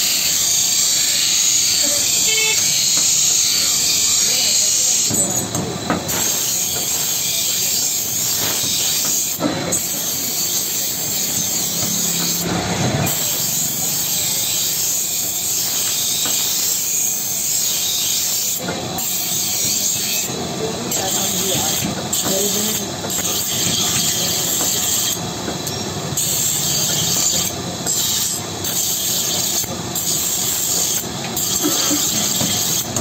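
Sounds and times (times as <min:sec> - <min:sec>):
steel grinding on grinding wheel: 0:00.0 - 0:33.0.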